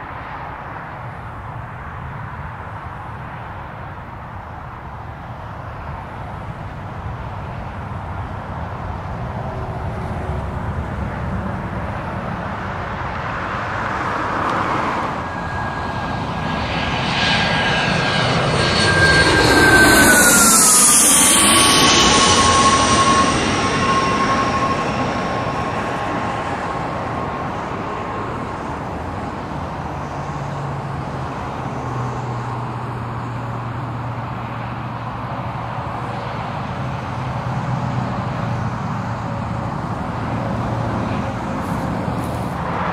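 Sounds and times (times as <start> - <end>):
jet turbine engines passing: 0.0 - 42.9.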